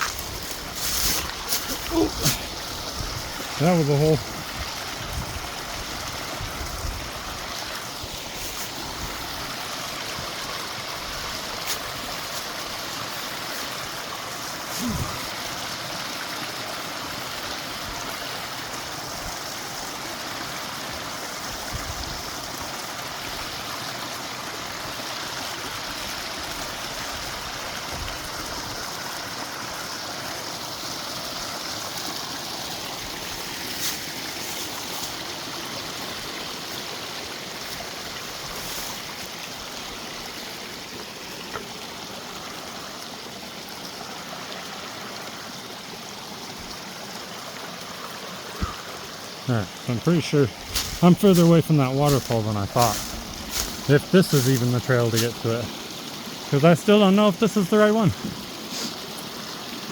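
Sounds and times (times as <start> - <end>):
creek water running over rocks: 0.0 - 59.9.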